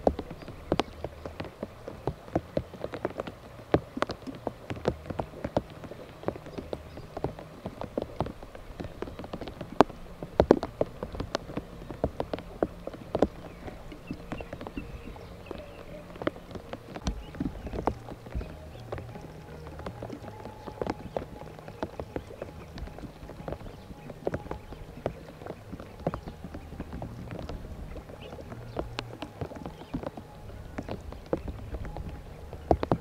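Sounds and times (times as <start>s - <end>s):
low steady hum: 0.0s - 33.0s
raindrops tapping hard surface: 0.0s - 33.0s.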